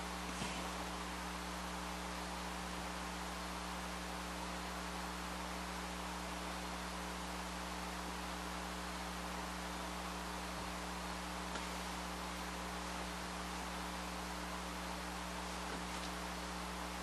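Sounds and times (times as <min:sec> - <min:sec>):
electrical mains hum: 0:00.0 - 0:17.0
steady hiss: 0:00.0 - 0:17.0.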